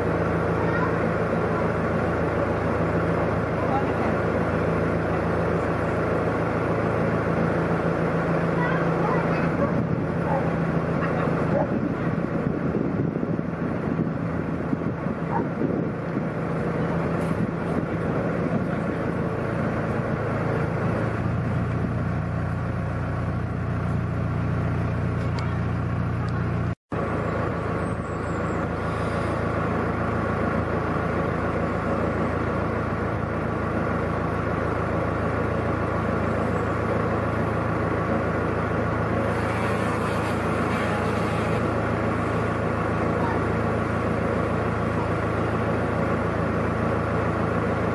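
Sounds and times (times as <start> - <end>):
diesel engines humming: 0.0 - 47.9.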